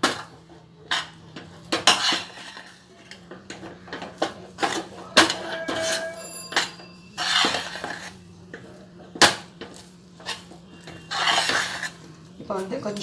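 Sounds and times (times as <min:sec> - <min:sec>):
steel spoon scraping a pan: 0:00.2 - 0:12.2.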